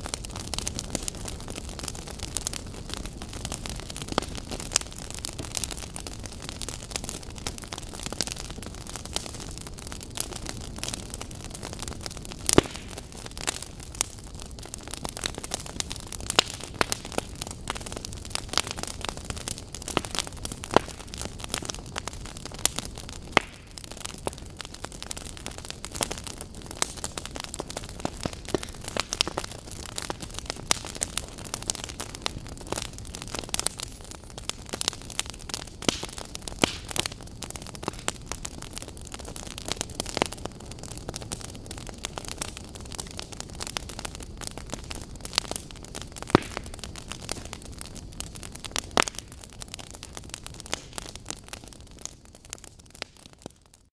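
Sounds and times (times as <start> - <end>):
fire rushing: 0.0 - 53.2
fire crackling and popping: 0.0 - 53.9.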